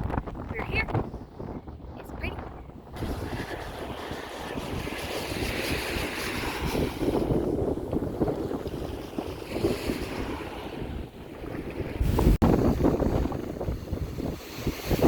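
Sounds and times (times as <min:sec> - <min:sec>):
wind gusting across microphone: 0:00.0 - 0:15.0
surf washing on beach: 0:02.9 - 0:15.0.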